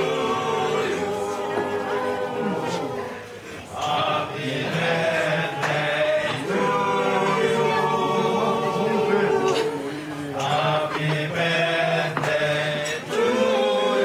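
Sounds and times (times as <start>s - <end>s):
group singing: 0.0s - 14.0s.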